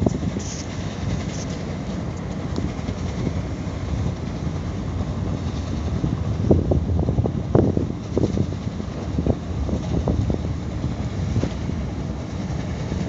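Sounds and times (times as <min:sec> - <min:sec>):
ship engine rumbling: 0:00.0 - 0:13.0
wind buffeting microphone: 0:00.0 - 0:13.0.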